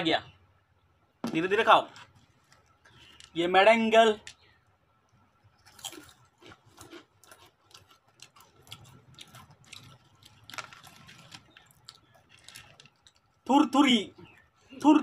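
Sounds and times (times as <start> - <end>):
people chewing crunchy snacks: 1.8 - 15.0.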